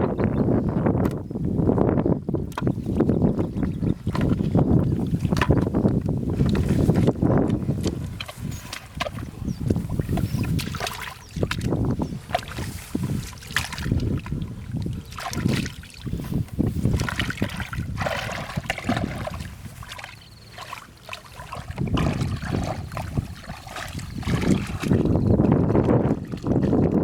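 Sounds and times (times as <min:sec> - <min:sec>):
muddy water sloshing: 0:01.8 - 0:27.0.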